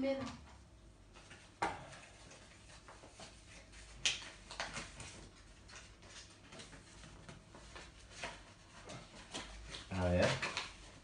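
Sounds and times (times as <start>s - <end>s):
paper rustling and crackling: 1.1s - 11.0s.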